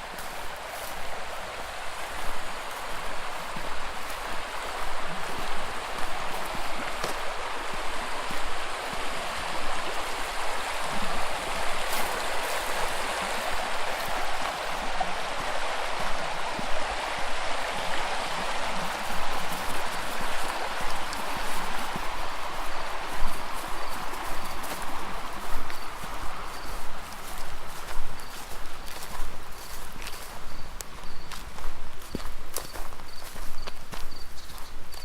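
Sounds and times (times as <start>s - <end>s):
footsteps walking outdoors: 0.0s - 35.0s.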